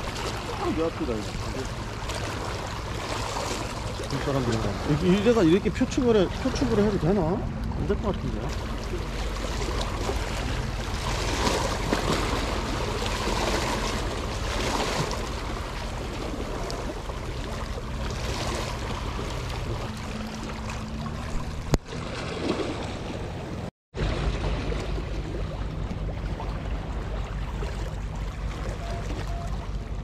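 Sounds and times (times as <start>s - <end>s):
waves lapping against rocks: 0.0s - 30.0s.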